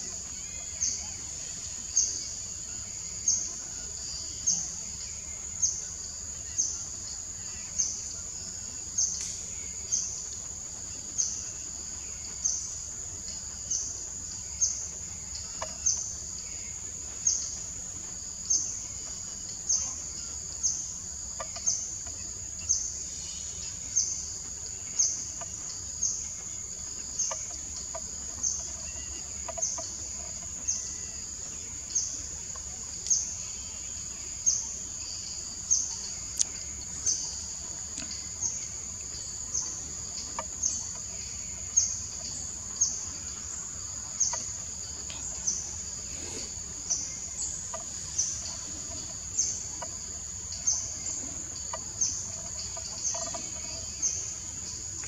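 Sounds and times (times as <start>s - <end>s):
shrill insect chorus pulsing: 0.0s - 55.0s.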